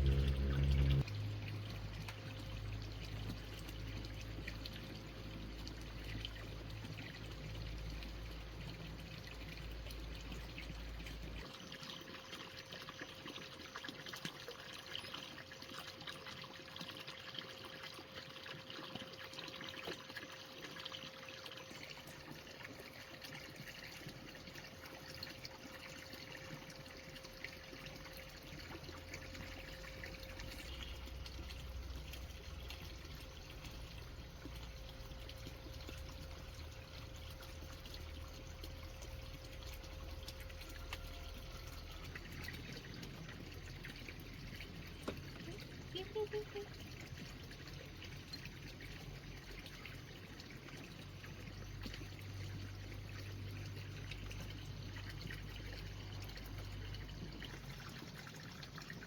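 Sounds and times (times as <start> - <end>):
faint steady hum: 0.0 - 13.7, 14.7 - 59.0
water trickling and pouring: 0.0 - 59.0.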